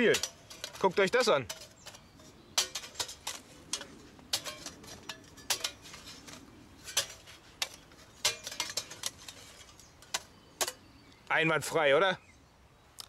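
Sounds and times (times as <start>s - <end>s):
metal stove clinking on sandy ground: 0.0s - 11.3s.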